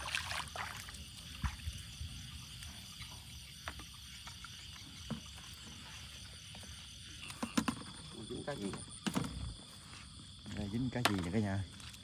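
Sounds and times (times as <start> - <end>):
frogs and insects chorus: 0.0 - 12.0.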